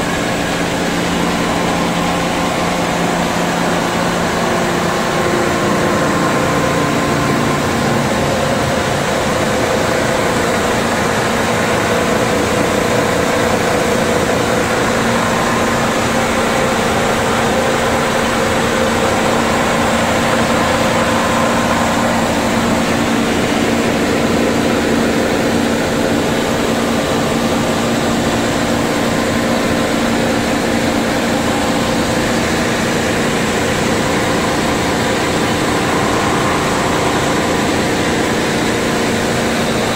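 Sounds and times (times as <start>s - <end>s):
machinery motors and conveyors humming: 0.0s - 39.9s
steady machine tones: 0.0s - 39.9s.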